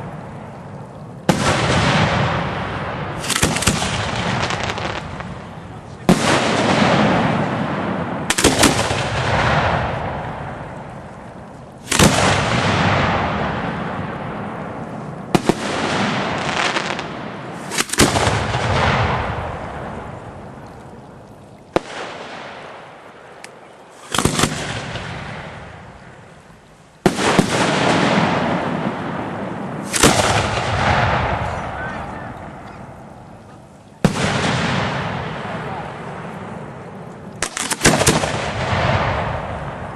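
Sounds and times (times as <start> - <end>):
fireworks shells bursting with bangs: 0.0 - 20.6, 21.7 - 39.9.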